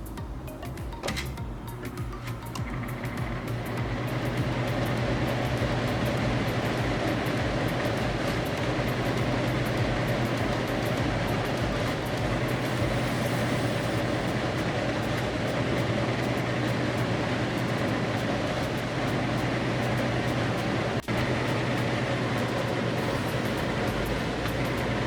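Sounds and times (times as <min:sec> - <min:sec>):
air conditioner fan running: 0:00.0 - 0:25.0.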